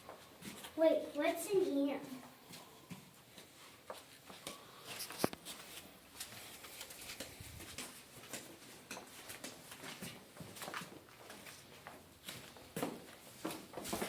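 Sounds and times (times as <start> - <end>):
people moving about in a room: 0.0 - 14.0.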